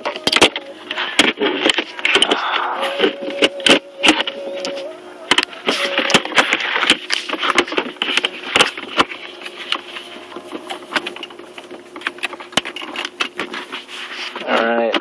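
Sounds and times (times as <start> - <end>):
rustling: 0.0 - 14.6
faint steady hum: 0.0 - 15.0.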